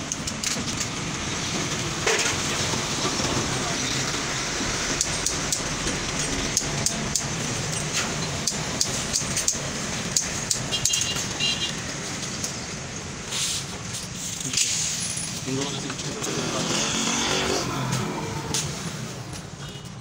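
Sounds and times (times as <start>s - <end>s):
street traffic hum: 0.0s - 20.0s.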